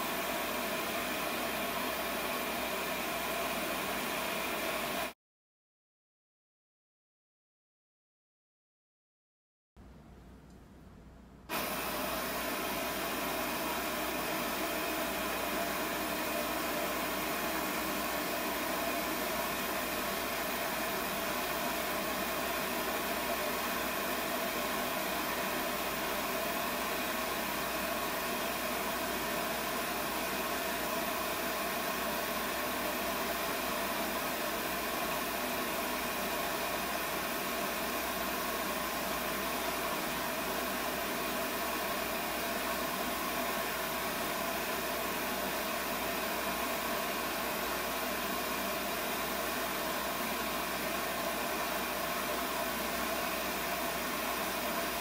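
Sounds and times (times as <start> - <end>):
gas burner flame hissing: 0.0 - 5.1, 11.5 - 55.0.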